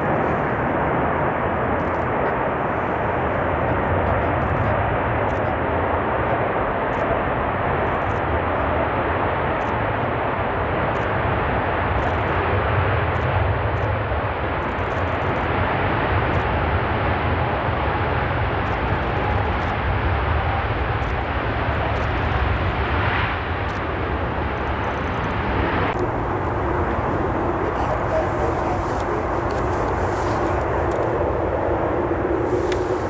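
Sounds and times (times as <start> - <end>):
jet engines at high power: 0.0 - 33.0.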